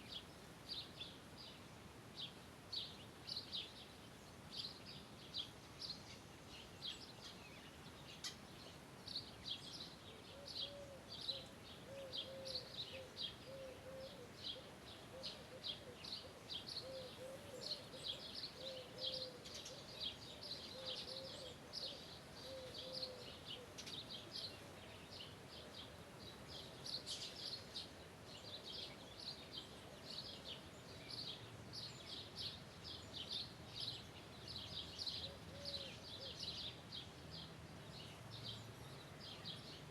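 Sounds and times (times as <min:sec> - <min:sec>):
birds chirping: 0:02.2 - 0:39.9.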